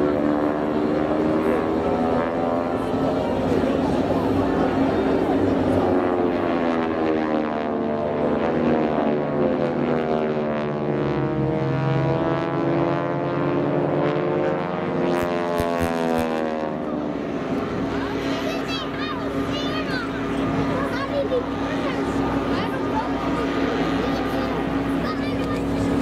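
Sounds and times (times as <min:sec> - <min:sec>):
propeller airplanes droning overhead: 0:00.0 - 0:26.0.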